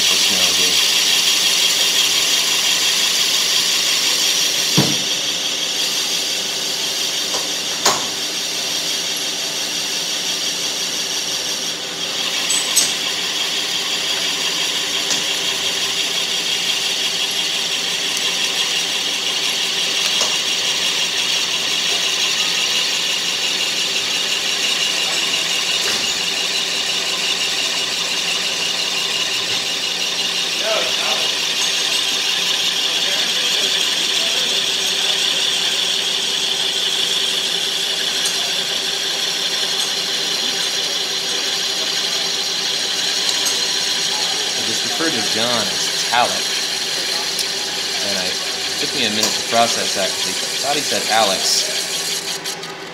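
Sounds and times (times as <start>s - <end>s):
lathe high hissing: 0.0s - 52.9s.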